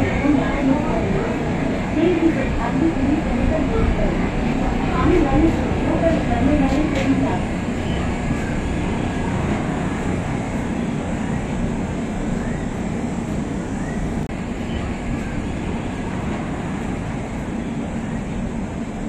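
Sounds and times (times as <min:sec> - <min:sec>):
train coach rumbling on track: 0:00.0 - 0:19.0.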